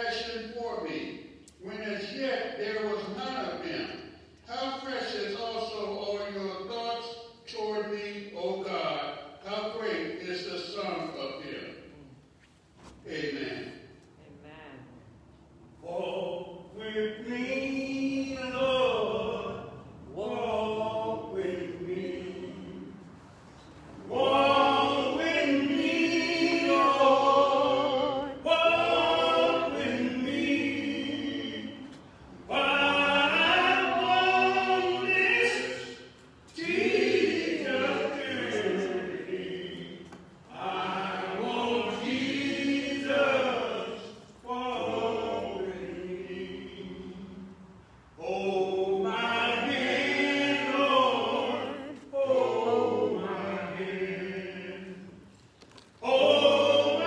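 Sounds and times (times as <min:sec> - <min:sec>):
unaccompanied hymn singing: 0:00.0 - 0:11.8, 0:15.8 - 0:57.0.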